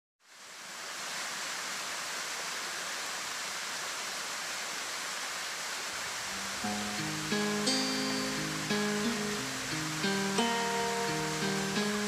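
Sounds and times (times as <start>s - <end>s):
waterfall pouring into a pool: 0.2s - 12.0s.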